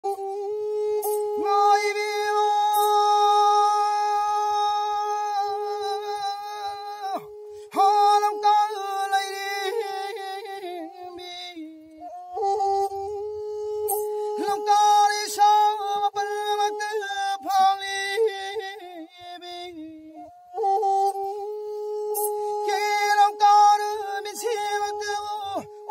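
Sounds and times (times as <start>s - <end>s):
bowed fiddle long notes: 0.0s - 25.9s.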